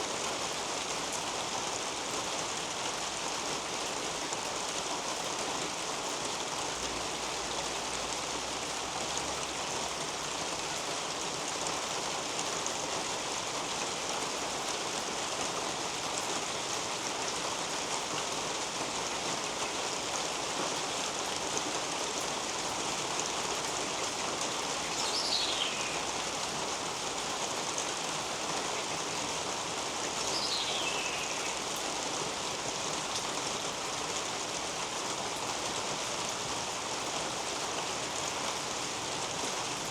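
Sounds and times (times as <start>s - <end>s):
rain falling on roof and leaves: 0.0s - 39.9s.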